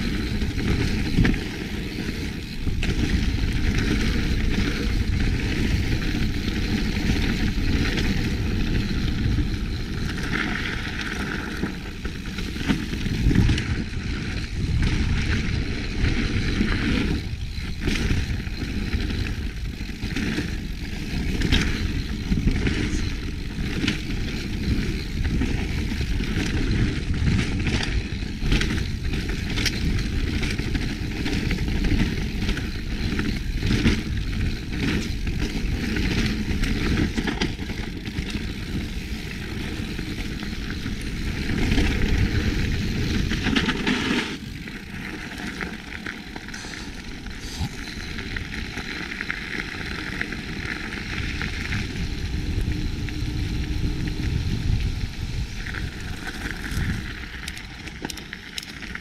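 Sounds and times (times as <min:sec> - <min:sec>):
bike knocking and rattling: 0:00.0 - 0:59.0
bike tyres rumbling on dirt: 0:00.0 - 0:59.0.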